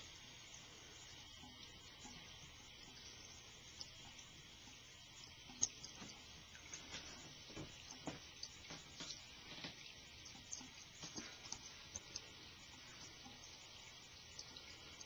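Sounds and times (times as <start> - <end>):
running water from faucet: 0.0 - 15.0.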